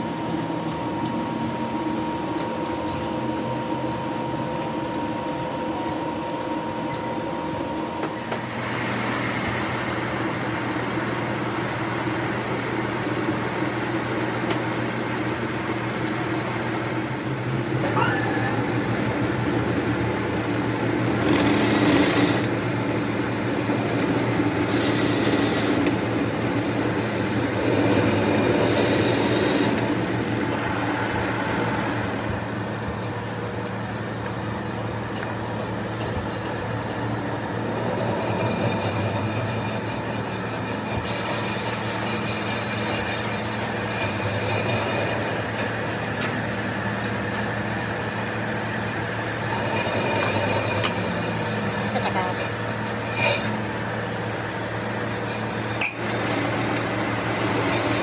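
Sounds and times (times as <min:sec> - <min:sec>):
workshop machine humming: 0:00.0 - 0:58.0.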